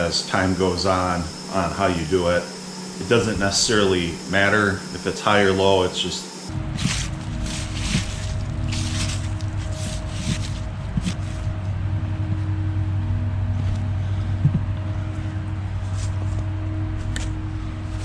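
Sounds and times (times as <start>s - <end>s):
air compressor motor hum: 0.0s - 18.0s.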